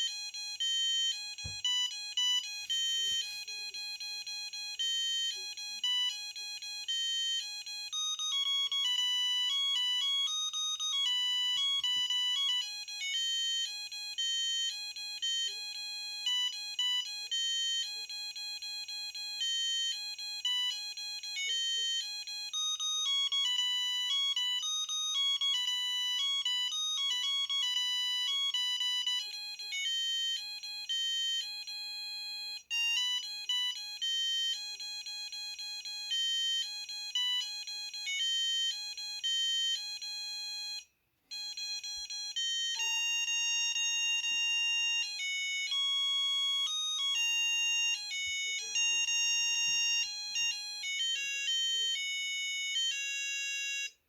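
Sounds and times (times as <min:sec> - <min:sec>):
phone ringtone beeping melody: 0:00.3 - 0:17.8, 0:18.7 - 0:54.0.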